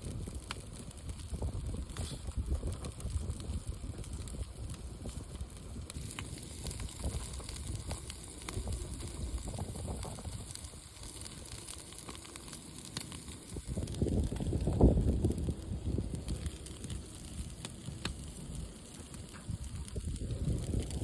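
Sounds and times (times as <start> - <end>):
campfire crackling: 0.0 - 21.0
wind buffeting microphone: 0.0 - 21.0.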